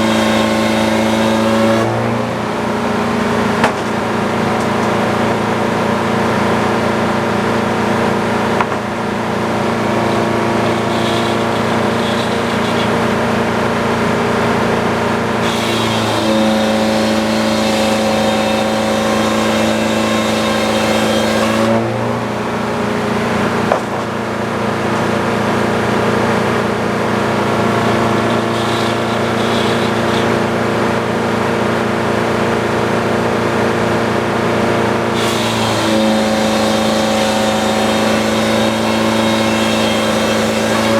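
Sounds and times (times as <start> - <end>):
sawmill sawing boards: 0.0 - 40.9.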